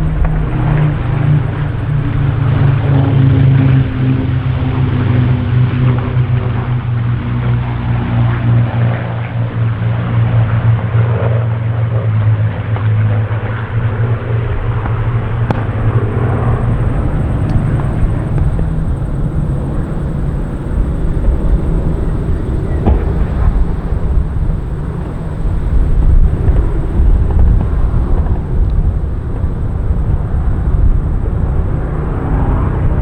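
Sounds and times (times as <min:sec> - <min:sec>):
aircraft engines in flight: 0:00.0 - 0:33.0.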